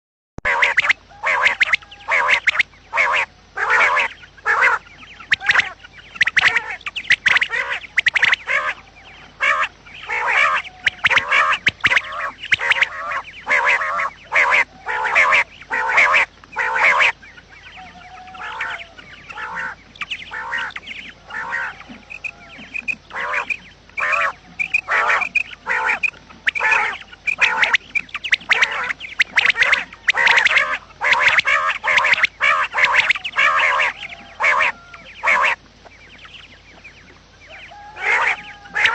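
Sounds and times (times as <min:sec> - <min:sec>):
quail calling: 0:00.4 - 0:38.9.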